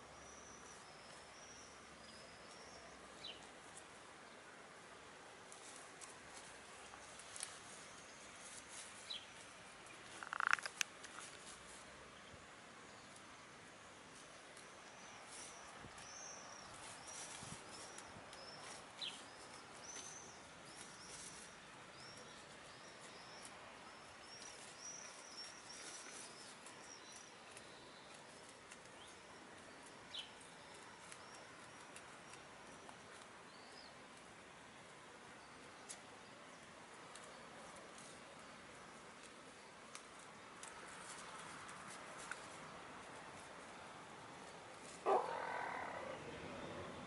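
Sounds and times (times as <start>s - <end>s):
songbird chirps: 0.0s - 47.0s.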